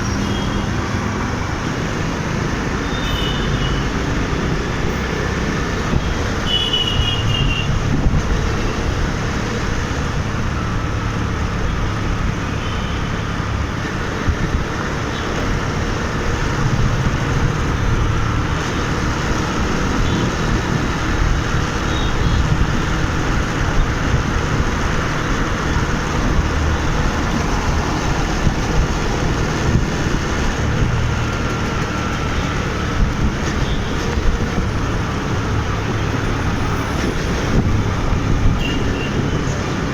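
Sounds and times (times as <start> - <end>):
motorbike engine and wind rumble: 0.0 - 39.9
surrounding road traffic: 0.0 - 39.9.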